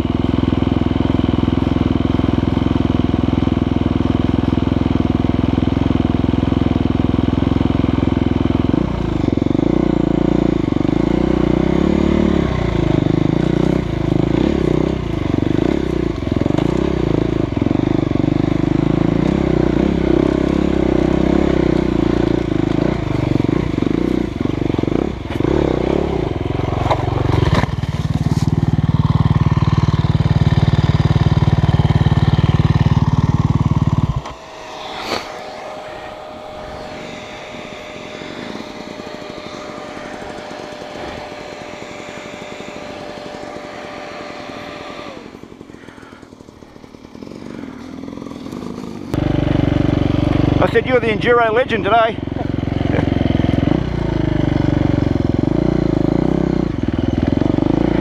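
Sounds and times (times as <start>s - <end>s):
dirt bike engine idling and revving: 0.0s - 58.0s.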